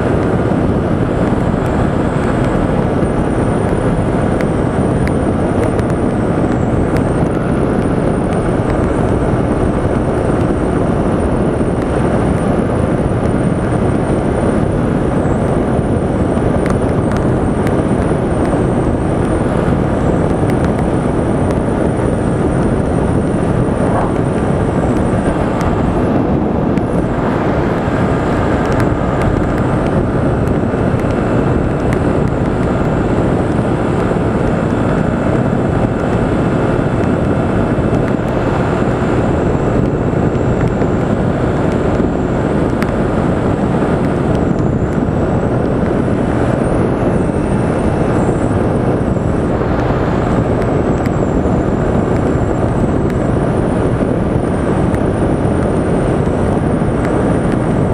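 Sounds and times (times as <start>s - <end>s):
motorcycle engine and tyres drone: 0.0s - 57.9s
wind rush on microphone: 0.0s - 57.9s.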